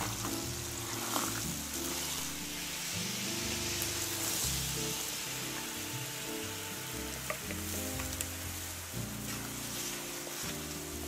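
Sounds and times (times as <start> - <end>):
background music: 0.0 - 11.0
food sizzling in a pan: 0.0 - 11.0.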